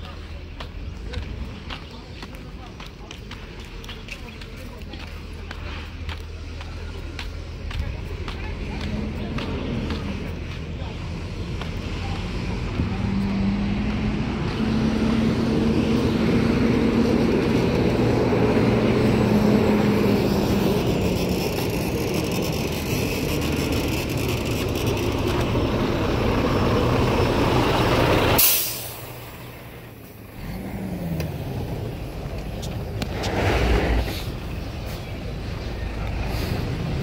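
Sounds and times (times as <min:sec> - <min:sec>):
heavy vehicle engine droning: 0:00.0 - 0:37.0.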